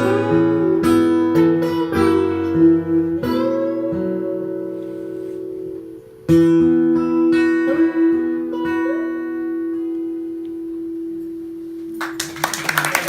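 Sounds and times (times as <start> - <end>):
picked guitar notes: 0.0 - 12.1.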